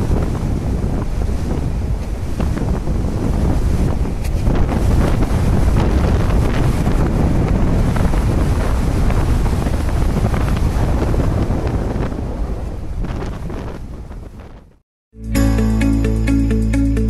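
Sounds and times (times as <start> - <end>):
sea washing along ship hull: 0.0 - 13.7
wind buffeting microphone: 0.0 - 14.8.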